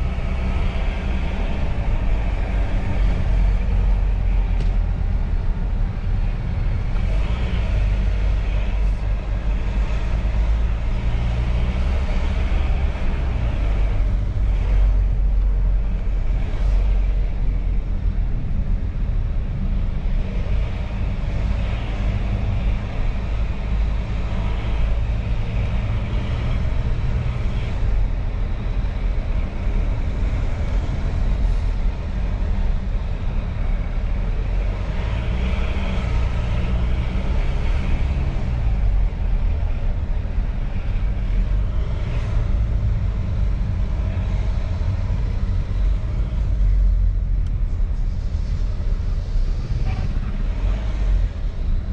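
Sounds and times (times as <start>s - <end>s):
car cabin engine and tyre rumble: 0.0s - 51.9s.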